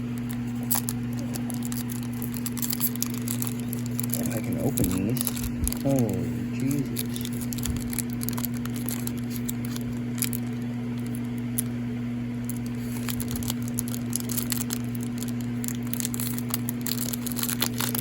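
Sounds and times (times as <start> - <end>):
packaging crinkling and tearing: 0.0 - 11.8, 12.4 - 18.0
low hum: 0.0 - 18.0.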